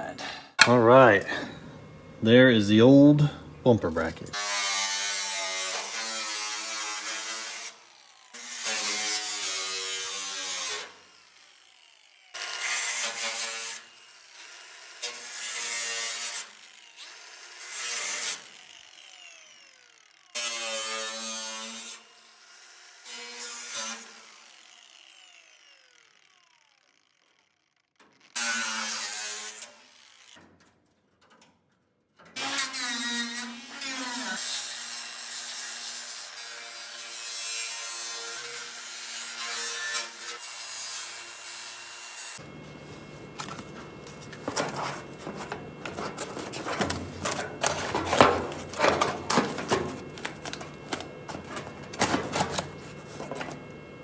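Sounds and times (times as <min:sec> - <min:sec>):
power tool grinding sheet metal: 0:04.0 - 0:27.3, 0:28.0 - 0:30.5, 0:32.4 - 0:54.0.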